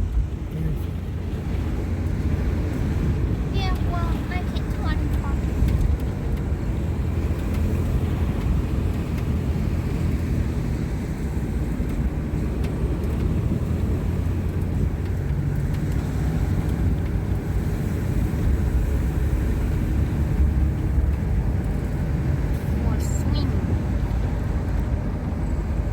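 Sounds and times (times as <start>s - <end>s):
car tyres and engine rumble: 0.0s - 25.9s.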